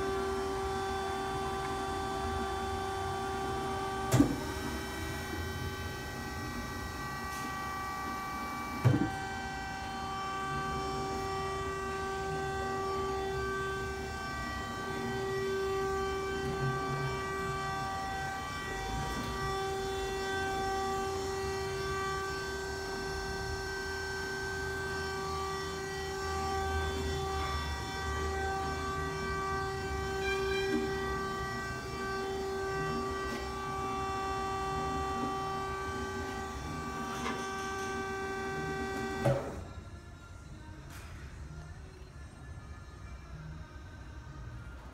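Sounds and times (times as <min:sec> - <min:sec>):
band saw whining: 0:00.0 - 0:39.8.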